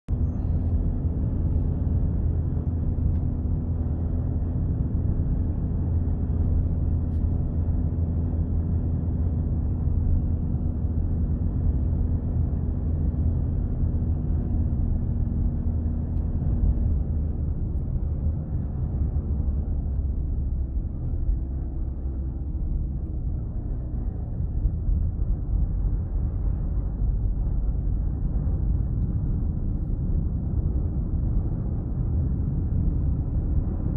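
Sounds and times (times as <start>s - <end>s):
car engine and road noise: 0.1s - 33.9s.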